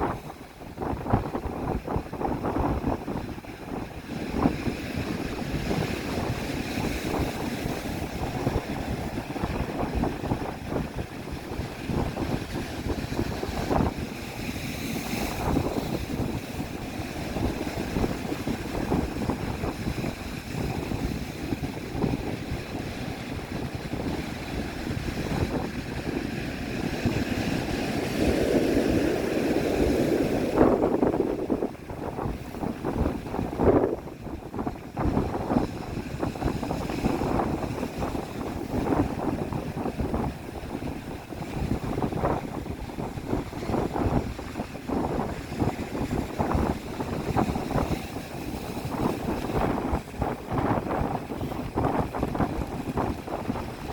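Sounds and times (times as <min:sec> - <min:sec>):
wind buffeting microphone: 0:00.0 - 0:53.9
breaking surf: 0:04.0 - 0:53.9.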